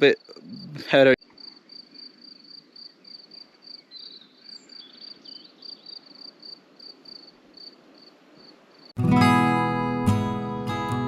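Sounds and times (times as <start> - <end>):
cricket chirping: 0.0 - 9.0.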